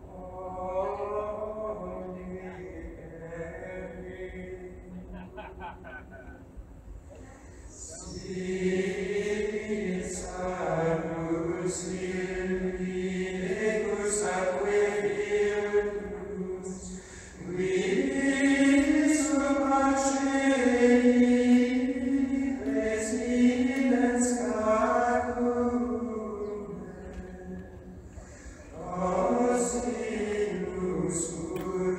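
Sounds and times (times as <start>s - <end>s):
slow choral chant: 0.0s - 6.4s, 7.2s - 31.9s.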